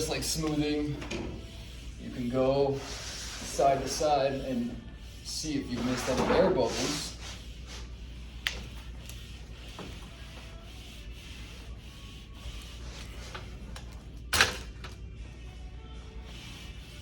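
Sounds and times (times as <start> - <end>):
damp sponge wiping wallpaper: 0.0 - 13.7, 16.0 - 17.0.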